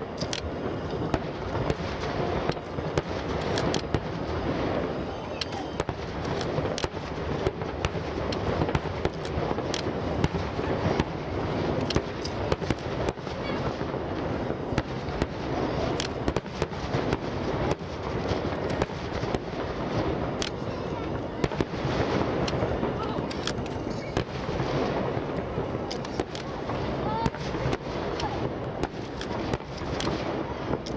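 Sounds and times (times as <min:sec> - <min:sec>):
fireworks cracks and booms: 0:00.0 - 0:30.9
fireworks rolling rumble: 0:00.0 - 0:30.9.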